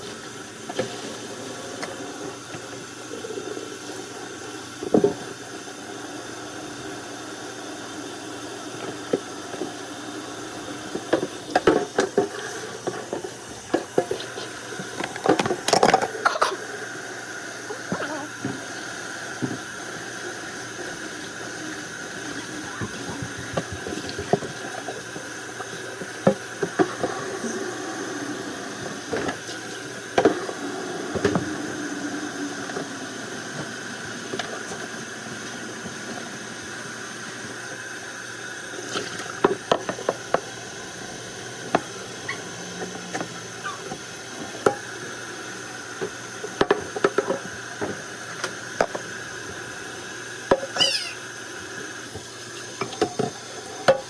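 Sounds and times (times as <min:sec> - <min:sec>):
steady background hiss: 0:00.0 - 0:43.4.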